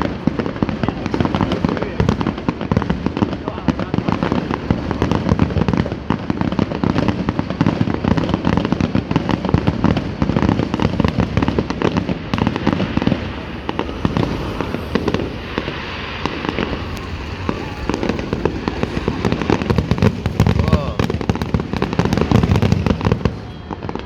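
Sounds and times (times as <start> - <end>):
fireworks cracks and bangs: 0.0 - 24.0.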